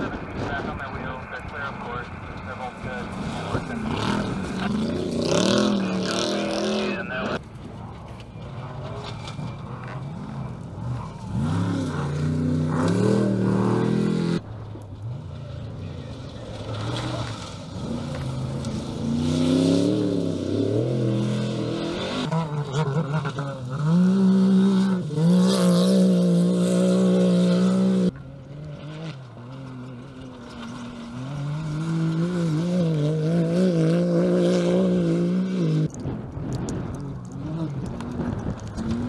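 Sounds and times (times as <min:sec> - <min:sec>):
off-road race engines revving: 0:00.0 - 0:39.0.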